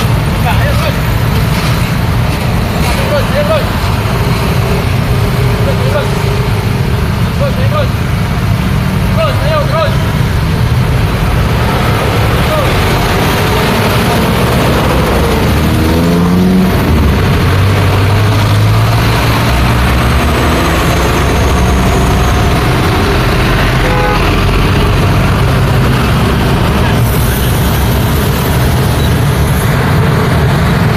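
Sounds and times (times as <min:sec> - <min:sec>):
deep engine drone: 0:00.0 - 0:30.9
engine revving up: 0:00.0 - 0:30.9
passing vehicle engines and tyres: 0:00.0 - 0:30.9.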